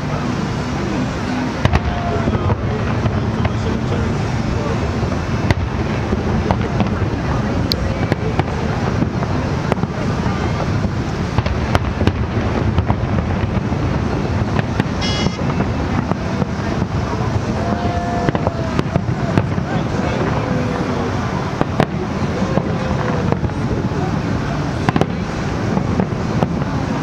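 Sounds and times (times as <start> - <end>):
fireworks rumble: 0.0 - 27.0
fireworks sharp cracks: 0.0 - 27.0.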